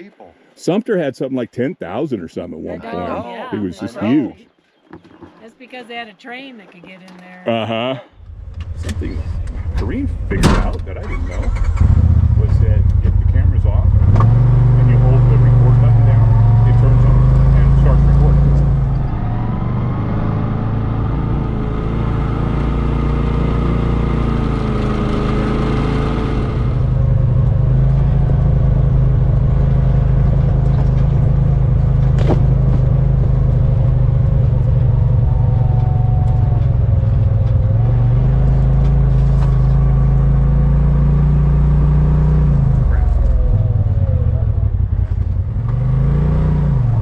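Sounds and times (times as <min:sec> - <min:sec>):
vehicle engine running: 0:08.2 - 0:47.0.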